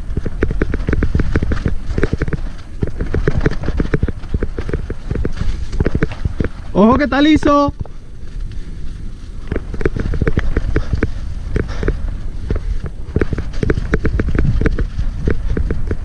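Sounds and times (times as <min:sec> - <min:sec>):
bike rattling over bumps: 0:00.0 - 0:16.0
rumble of tyres and wind: 0:00.0 - 0:16.0.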